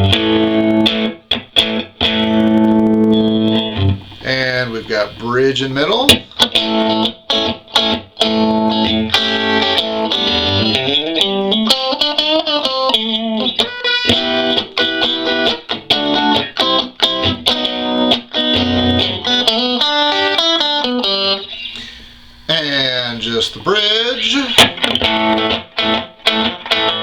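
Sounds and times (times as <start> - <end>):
clean electric guitar: 0.0 - 27.0.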